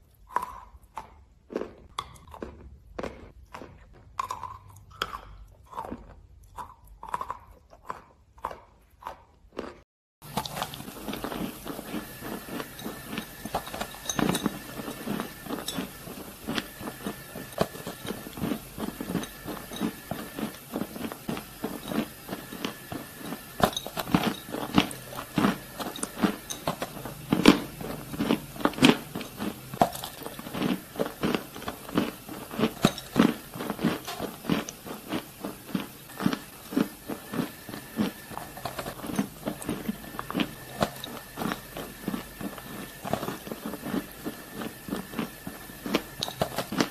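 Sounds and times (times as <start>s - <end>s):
crunching and chewing: 0.0s - 46.9s.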